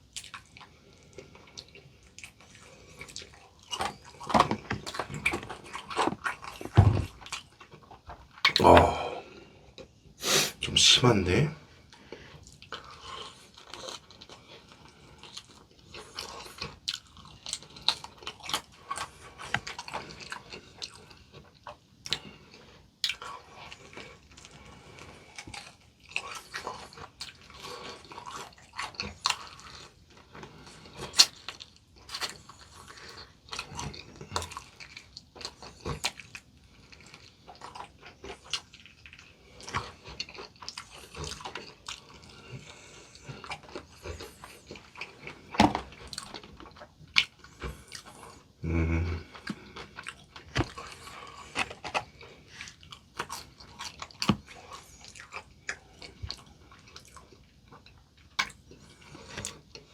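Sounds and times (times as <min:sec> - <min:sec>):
chewing crispy fried chicken: 0:00.0 - 0:59.9.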